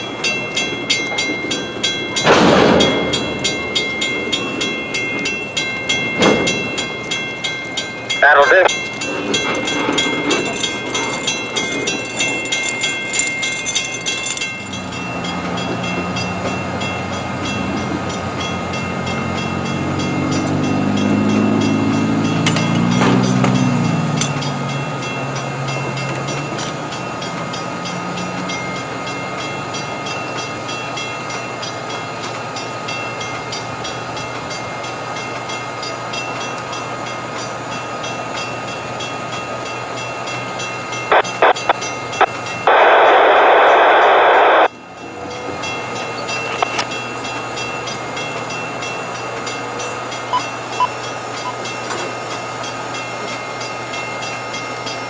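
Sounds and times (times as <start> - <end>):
diesel locomotive engine humming: 0.0 - 55.0.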